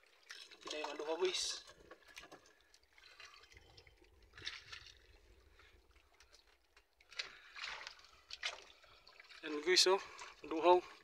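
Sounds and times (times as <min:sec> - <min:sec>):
light splashes: 0:00.0 - 0:11.0.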